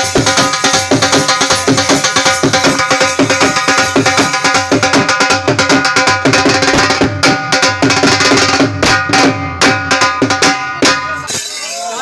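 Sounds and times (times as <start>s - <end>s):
drum beaten in fast rhythm: 0.0s - 12.0s.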